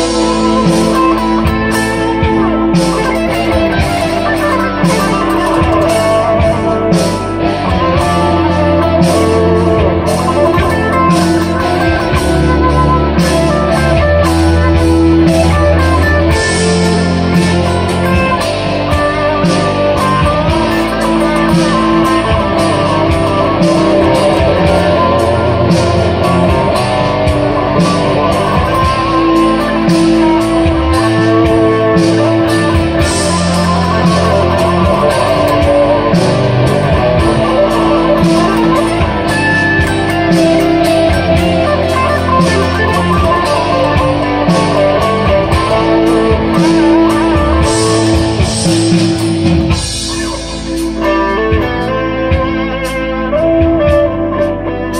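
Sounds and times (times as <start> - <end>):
electric guitar playing: 0.0 - 54.9.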